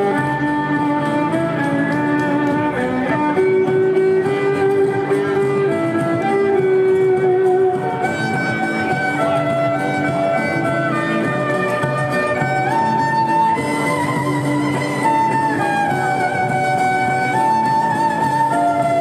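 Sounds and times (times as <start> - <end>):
lower accompaniment: 0.0 - 19.0
solo violin slow melody: 0.0 - 19.0.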